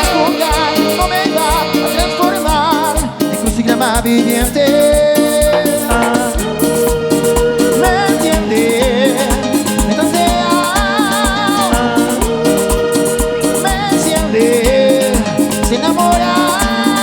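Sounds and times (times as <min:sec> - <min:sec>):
kick drum beat: 0:00.0 - 0:17.0
latin dance music: 0:00.0 - 0:17.0.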